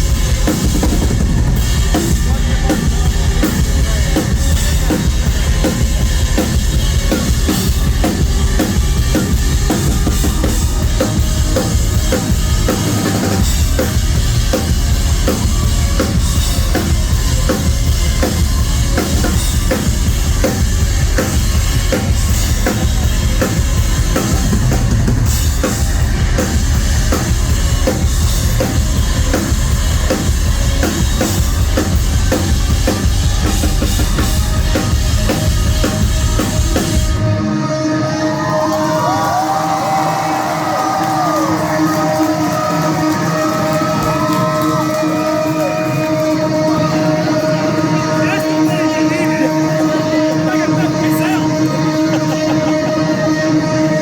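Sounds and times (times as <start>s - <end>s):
driving drum kit beats: 0.0s - 54.0s
live rock band playing: 0.0s - 54.0s.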